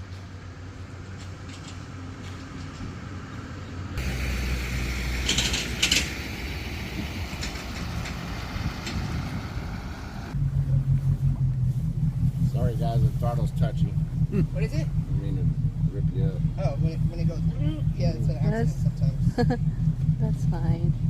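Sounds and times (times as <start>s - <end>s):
motorboat engine running: 4.0s - 21.0s.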